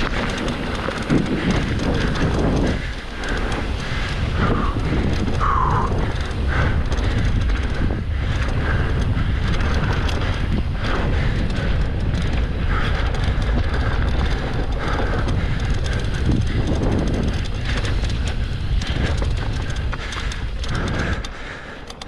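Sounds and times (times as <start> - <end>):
wind rushing over microphone: 0.0 - 21.8
bike knocking and rattling: 0.0 - 22.0.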